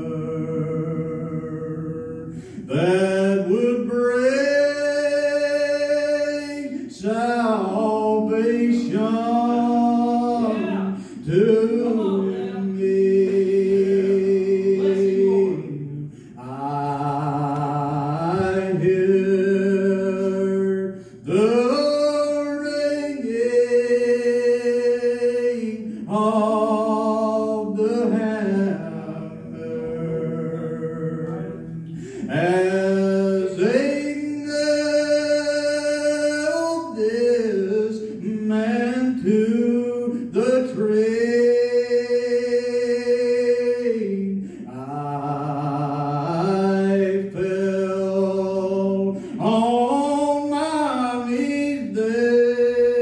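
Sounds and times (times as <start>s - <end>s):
man singing a cappella: 0.0s - 53.0s.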